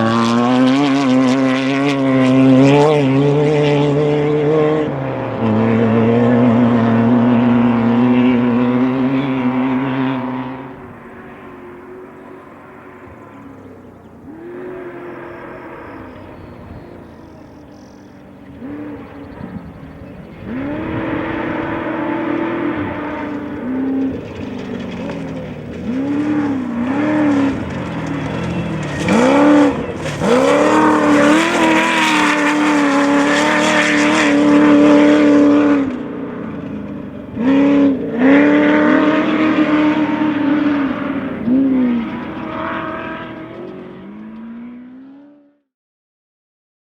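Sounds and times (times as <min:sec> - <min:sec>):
race vehicle engine revving: 0:00.0 - 0:45.6.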